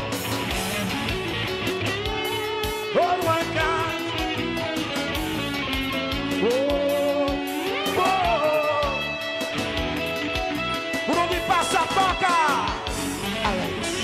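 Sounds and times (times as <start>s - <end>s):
electric guitar lead: 0.0s - 14.0s
live band music: 0.0s - 14.0s.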